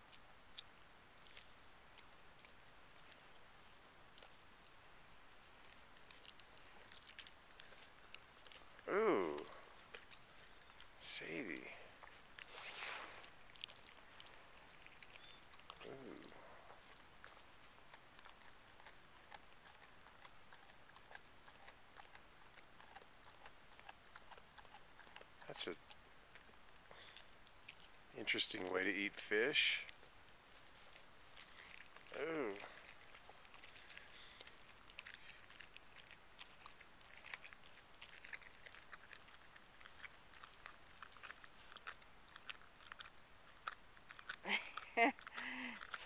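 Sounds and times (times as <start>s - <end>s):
dog chewing fish: 0.0s - 46.0s.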